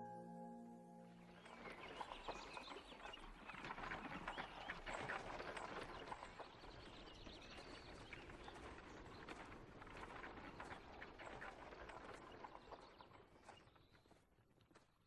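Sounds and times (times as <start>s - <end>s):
faint clip-clop of horses' hooves: 1.4s - 15.0s.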